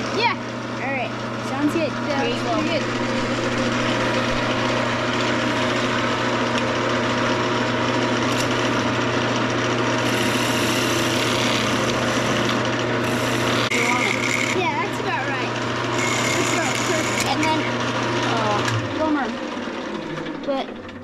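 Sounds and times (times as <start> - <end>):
wood lathe motor hum: 0.0 - 21.0.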